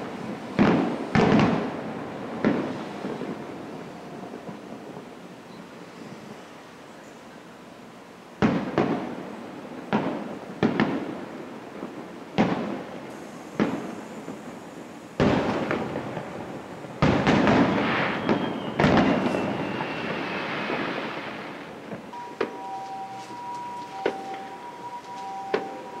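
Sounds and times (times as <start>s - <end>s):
firework shells booming: 0.0s - 5.2s, 8.4s - 11.3s, 11.9s - 26.0s.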